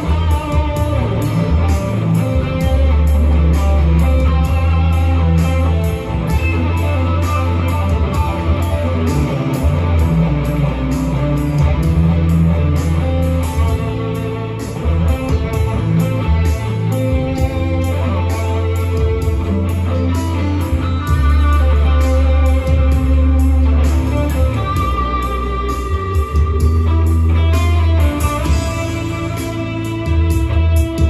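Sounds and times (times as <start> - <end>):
electric guitar lead: 0.0 - 31.0
sustained bass notes: 0.0 - 31.0
ticking beat: 0.0 - 31.0.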